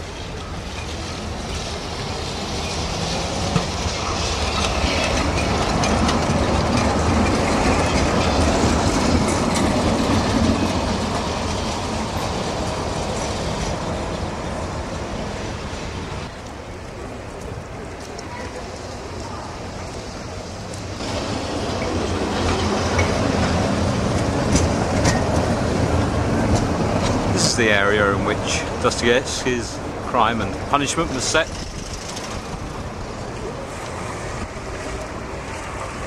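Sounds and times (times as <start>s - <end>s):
tram wheels clattering on rails: 0.0s - 36.0s.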